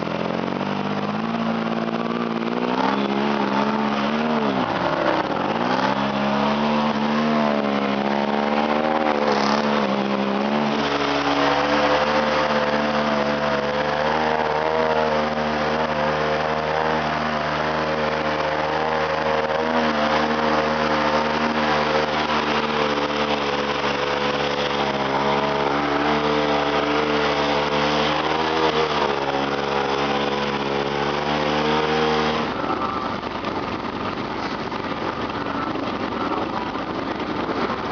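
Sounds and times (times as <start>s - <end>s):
atv engine revving: 0.0s - 37.9s.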